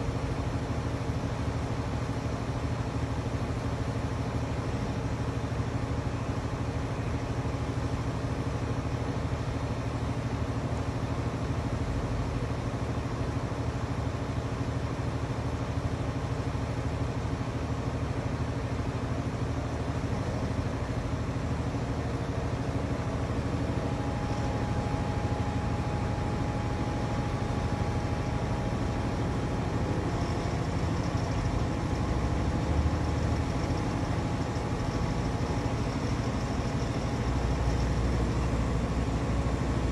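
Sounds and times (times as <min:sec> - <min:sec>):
crane diesel engine running: 0:00.0 - 0:39.9
faint high whine: 0:00.0 - 0:39.9.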